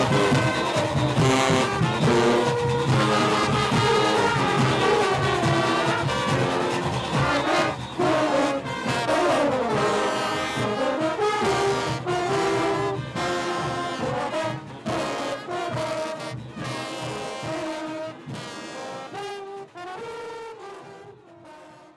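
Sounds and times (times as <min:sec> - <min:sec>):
percussion: 0:00.0 - 0:21.0
brass horns playing a melody: 0:00.0 - 0:21.9.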